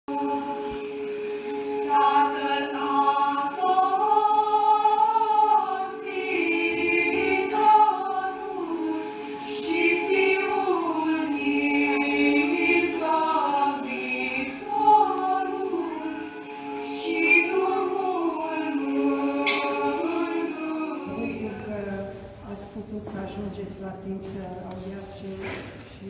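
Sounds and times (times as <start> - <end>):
women's choir singing: 0.1 - 26.0.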